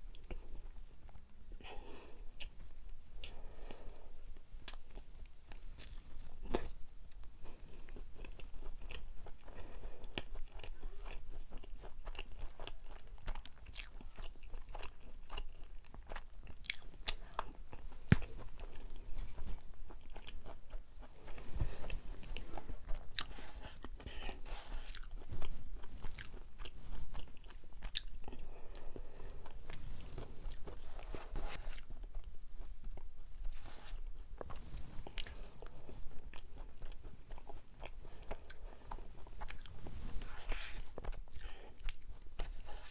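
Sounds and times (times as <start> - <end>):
chewing rice cake: 0.1 - 4.0, 4.6 - 42.9.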